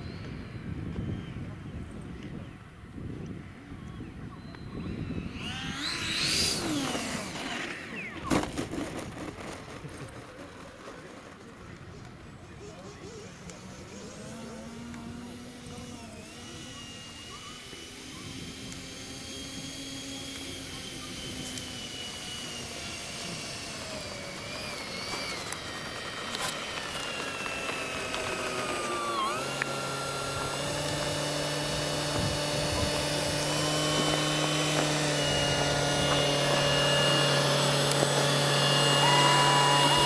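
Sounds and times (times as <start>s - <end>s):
model jet electric fan whine: 0.0s - 40.0s.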